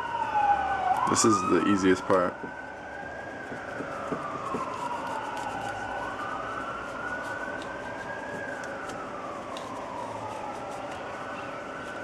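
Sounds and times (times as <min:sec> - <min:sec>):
emergency vehicle siren wailing: 0:00.0 - 0:12.0.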